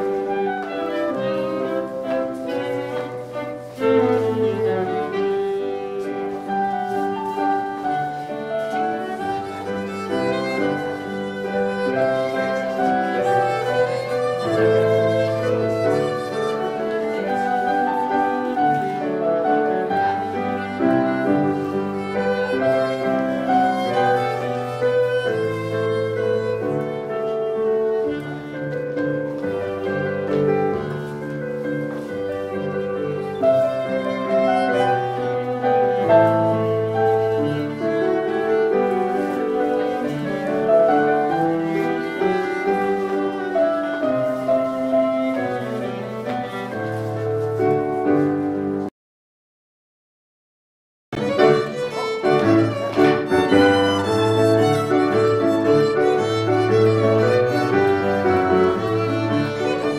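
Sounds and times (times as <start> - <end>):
cello: 0.0 - 48.9, 51.2 - 59.9
violin: 0.0 - 48.9, 51.2 - 59.9
piano: 0.0 - 49.0, 51.1 - 59.9.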